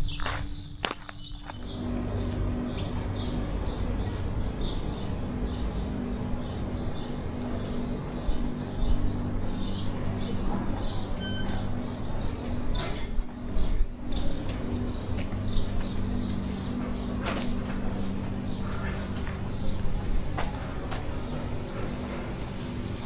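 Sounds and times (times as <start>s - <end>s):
low background rumble and hum: 0.0s - 23.0s
small birds chirping: 0.0s - 23.0s.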